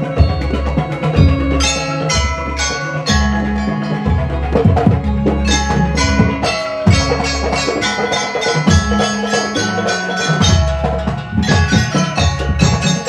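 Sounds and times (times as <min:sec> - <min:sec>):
hand drums: 0:00.0 - 0:13.0
metallophones struck quickly: 0:00.0 - 0:13.0.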